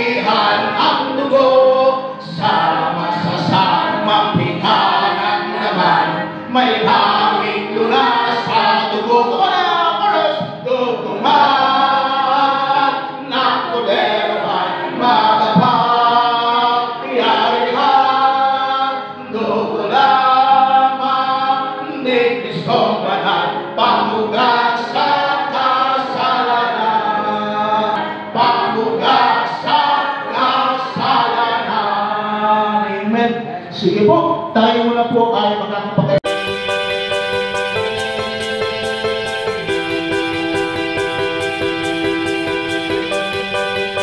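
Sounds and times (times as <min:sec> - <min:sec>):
congregation singing: 0:00.0 - 0:44.0.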